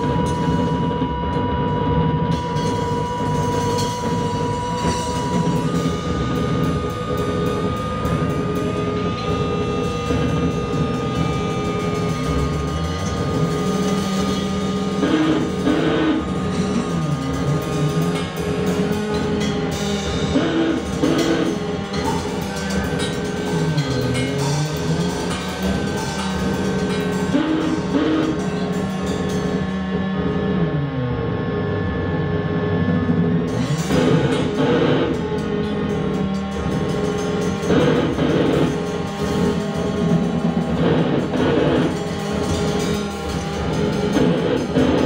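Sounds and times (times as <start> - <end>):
bass guitar with effects: 0.0 - 45.0
drum and cymbal hits: 0.0 - 45.0
synthesizer drones: 0.0 - 45.0.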